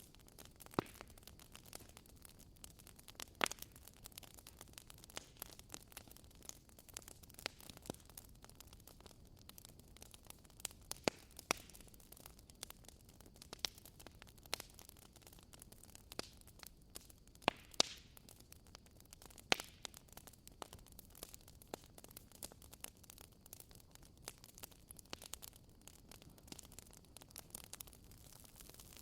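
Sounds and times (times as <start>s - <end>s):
low fire rumble: 0.0s - 29.0s
wood fire crackling: 0.0s - 29.0s.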